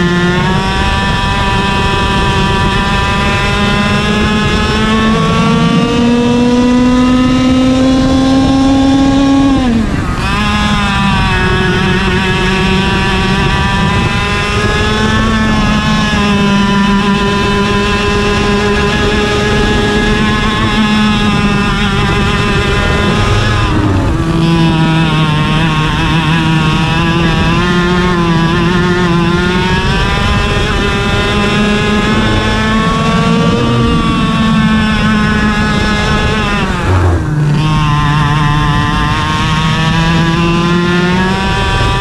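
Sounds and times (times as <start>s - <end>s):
kart engine at racing speed: 0.0s - 42.0s.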